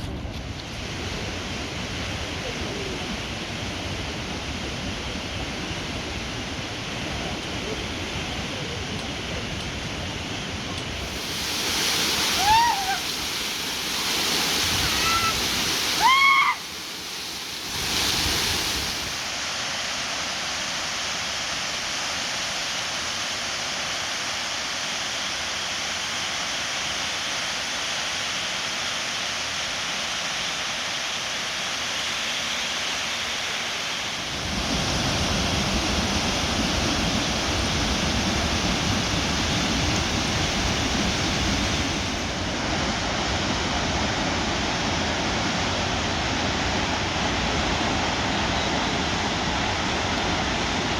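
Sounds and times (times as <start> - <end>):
waterfall rushing: 0.7 - 50.9.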